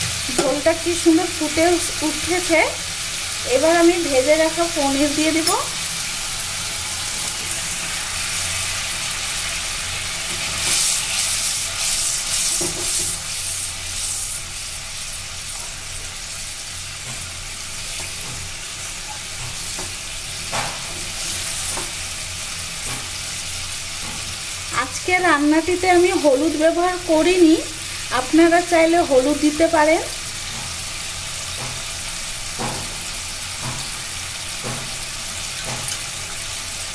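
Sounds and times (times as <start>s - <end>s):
gravy bubbling and sizzling: 0.0s - 36.9s.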